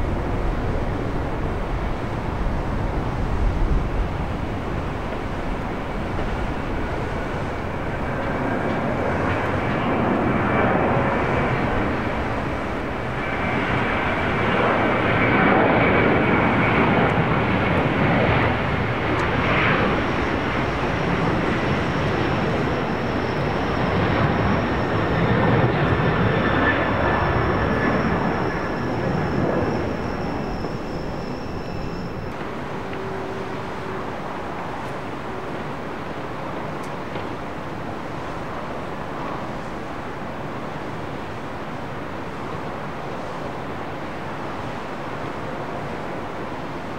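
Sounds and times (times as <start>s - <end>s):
jet engines rushing and whining: 0.0s - 46.9s.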